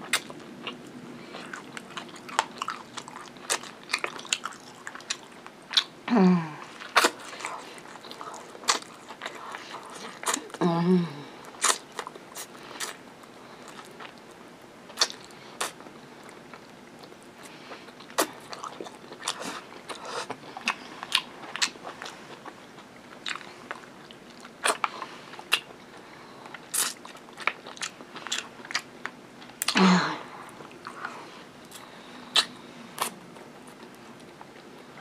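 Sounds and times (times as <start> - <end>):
person chewing food: 0.0 - 6.0, 6.6 - 10.6, 11.4 - 35.0.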